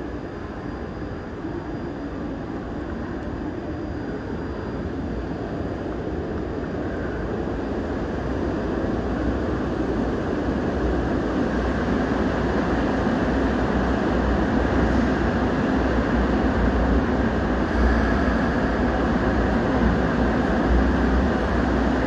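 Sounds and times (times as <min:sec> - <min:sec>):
subway train rumbling in tunnel: 0:00.0 - 0:22.0.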